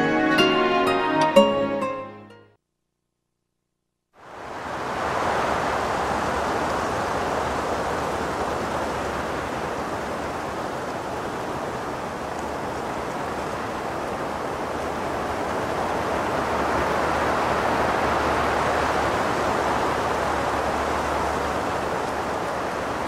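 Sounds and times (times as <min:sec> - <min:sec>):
sea surf rushing: 0:04.2 - 0:23.0.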